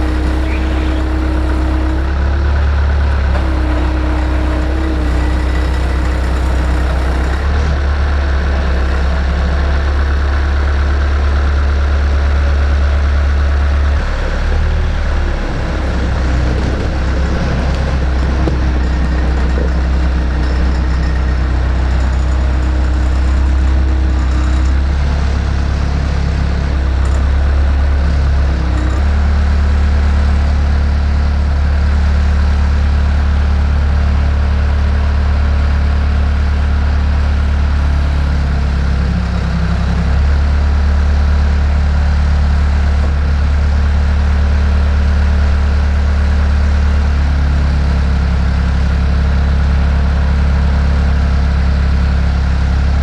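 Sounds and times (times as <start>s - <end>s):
skid steer loader engine running: 0.0s - 53.0s.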